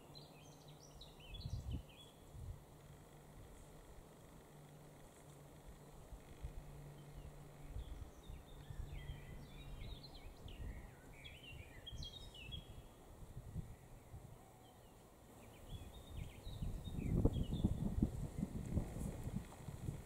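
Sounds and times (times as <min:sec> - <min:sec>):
small birds chirping: 0:00.0 - 0:18.8
low background noise: 0:00.0 - 0:20.0.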